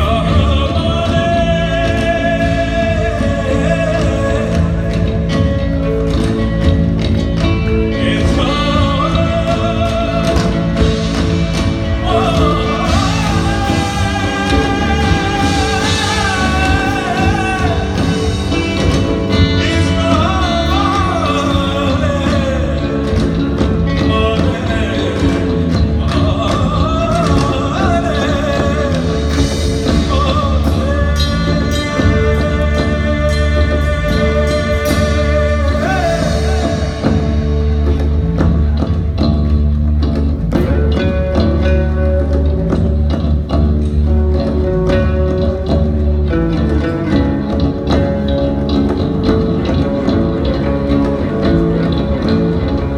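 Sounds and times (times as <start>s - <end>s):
rock band playing: 0.0s - 52.9s.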